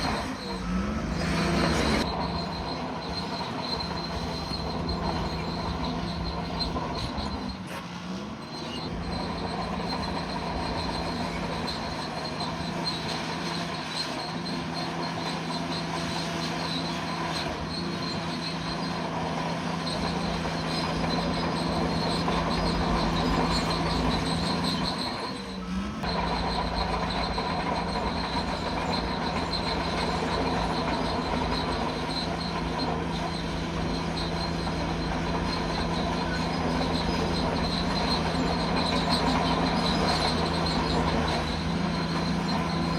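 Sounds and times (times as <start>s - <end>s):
bulldozer diesel engine hum: 0.0s - 42.9s
steel tracks squealing and clattering: 0.0s - 42.9s.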